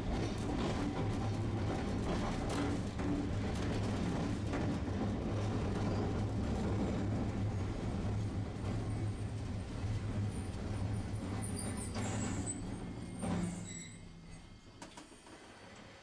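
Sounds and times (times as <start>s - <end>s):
tram low hum: 0.0s - 14.8s
wheels rumbling on track: 0.0s - 15.5s.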